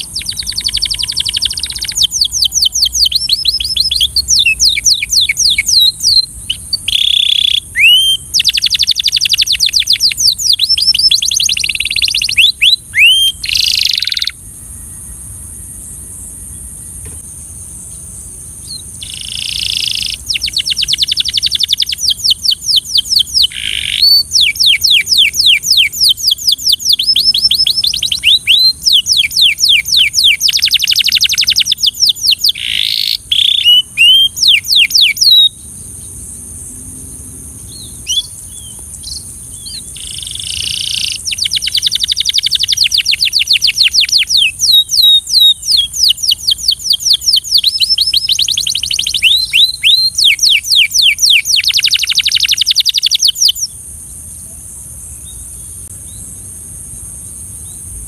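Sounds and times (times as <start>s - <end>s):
canary singing trills: 0.0s - 36.4s, 37.5s - 53.8s.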